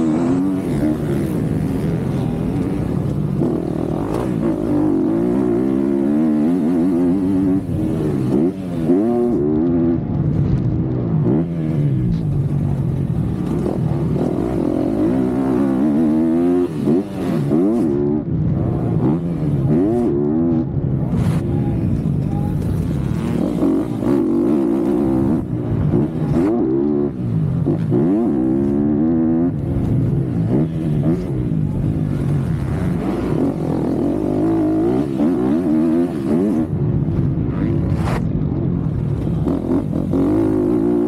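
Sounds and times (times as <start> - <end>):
motocross bike engine revving: 0.0 - 10.2, 10.8 - 36.8, 38.9 - 41.0.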